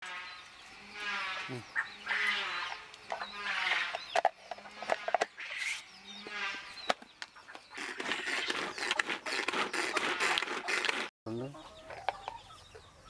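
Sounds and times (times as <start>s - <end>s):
chickens clucking: 1.0s - 13.0s.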